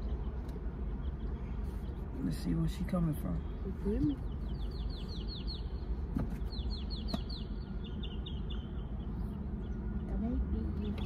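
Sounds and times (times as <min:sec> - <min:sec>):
car rumbling on the move: 0:00.0 - 0:11.0.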